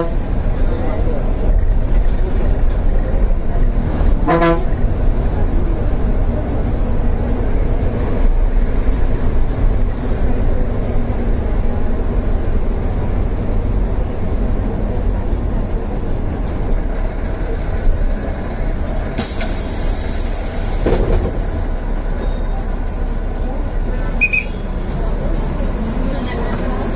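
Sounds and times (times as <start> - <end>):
bus engine and road noise: 0.0 - 26.9.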